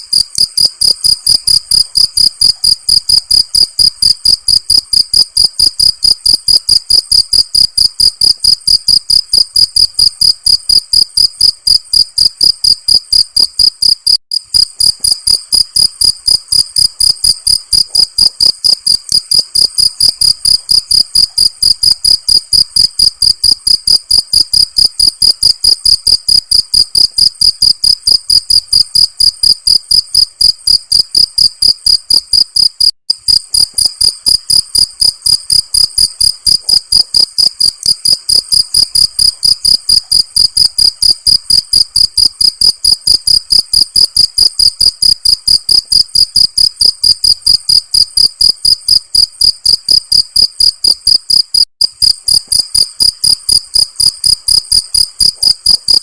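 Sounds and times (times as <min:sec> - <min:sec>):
cricket chirping: 0:00.1 - 0:56.0.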